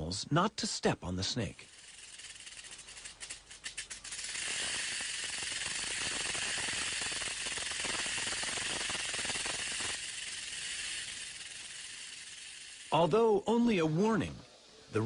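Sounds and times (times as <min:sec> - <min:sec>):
rattlesnake tail rattle buzz: 0:01.4 - 0:13.8.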